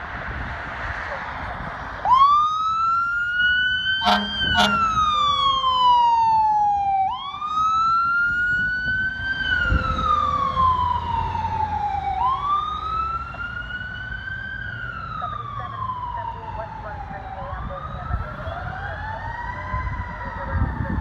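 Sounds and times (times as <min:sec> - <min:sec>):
fire engine siren wailing: 0:00.0 - 0:21.0.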